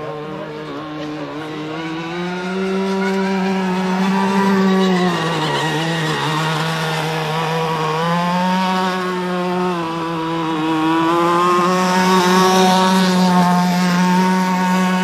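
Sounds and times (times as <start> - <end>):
rc boat motors whining: 0.0 - 15.0.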